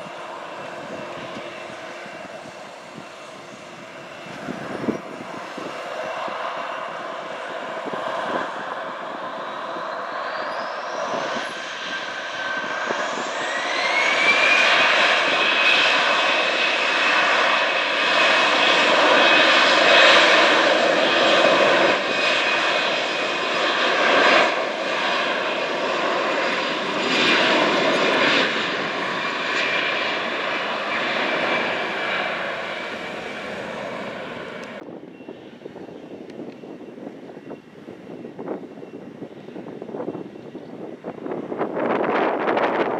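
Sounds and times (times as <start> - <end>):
jet engines spooling up: 0.0 - 34.9.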